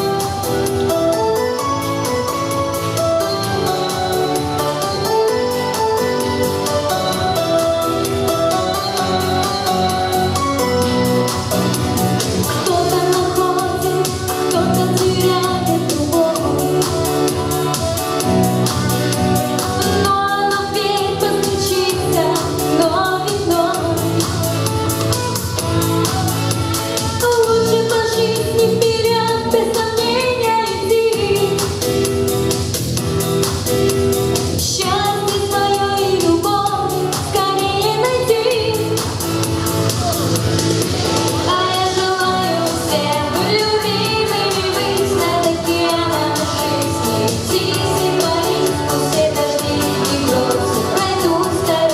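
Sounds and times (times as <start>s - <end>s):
woman singing pop song: 0.0s - 32.3s, 34.4s - 51.9s
instrumental accompaniment with beat: 0.0s - 51.9s.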